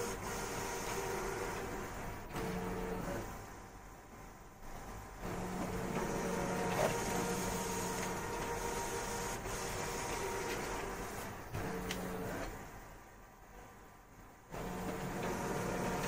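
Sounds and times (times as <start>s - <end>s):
printer whirring: 0.0s - 13.6s, 14.2s - 16.0s.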